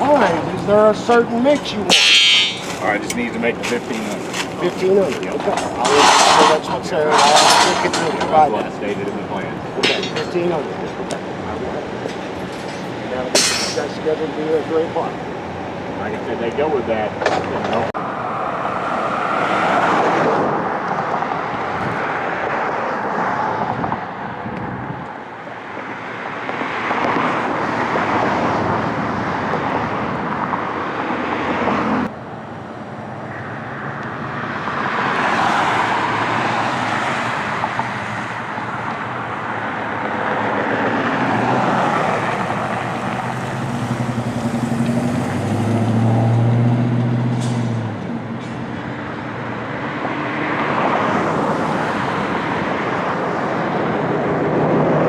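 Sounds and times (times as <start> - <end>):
vehicles passing: 0.0 - 55.0.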